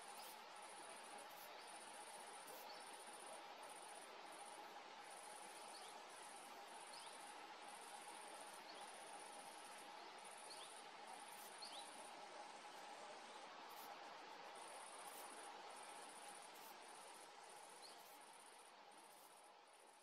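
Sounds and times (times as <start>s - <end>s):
faint hiss and hum: 0.0s - 20.0s.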